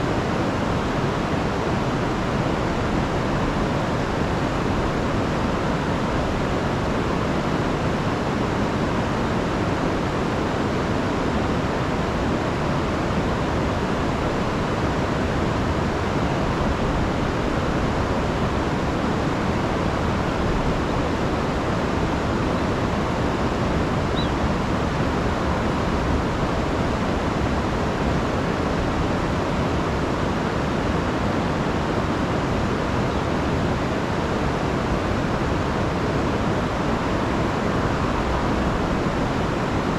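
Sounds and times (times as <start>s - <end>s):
river rushing over falls: 0.0s - 39.9s.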